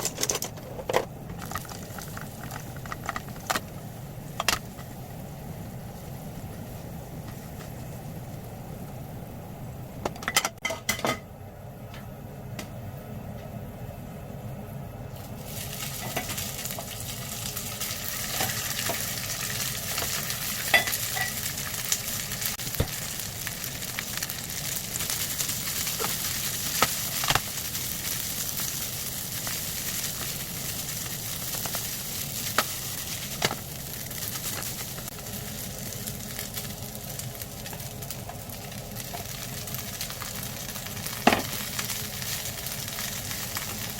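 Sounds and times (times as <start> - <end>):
food sizzling in a frying pan: 1.3 - 10.0, 15.1 - 43.9.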